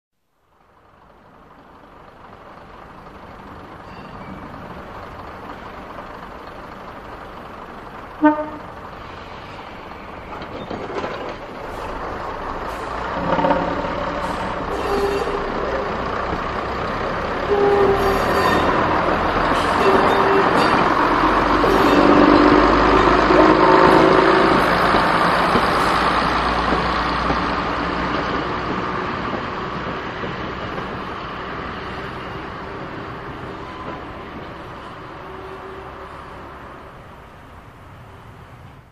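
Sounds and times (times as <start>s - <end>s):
model train running on track: 0.5s - 38.9s.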